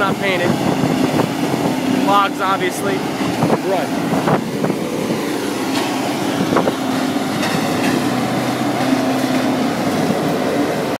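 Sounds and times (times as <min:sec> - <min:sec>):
wood grinder running under load: 0:00.0 - 0:11.0.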